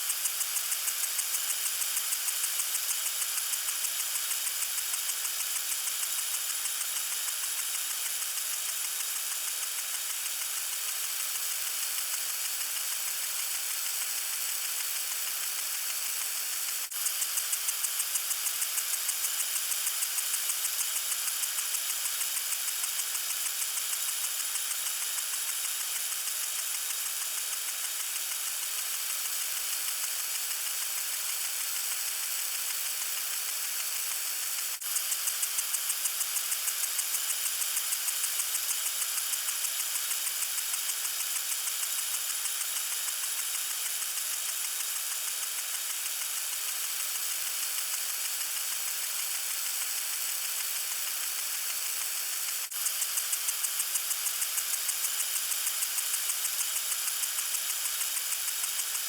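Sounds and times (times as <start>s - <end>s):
lawn sprinkler spraying water: 0.0s - 59.0s.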